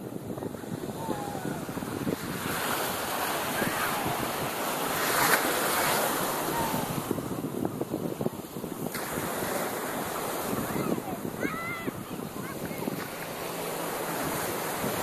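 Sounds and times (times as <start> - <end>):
small waves lapping shore: 0.0 - 15.0
wind buffeting microphone: 0.0 - 15.0.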